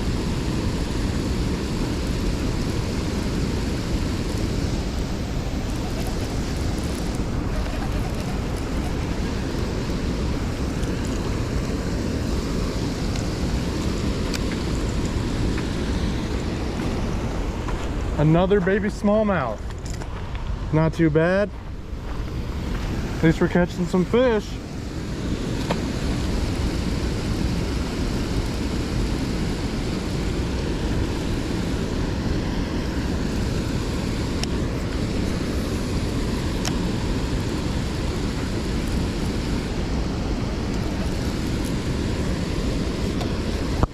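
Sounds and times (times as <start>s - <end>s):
water rushing from spillway: 0.0s - 17.6s, 22.4s - 43.9s.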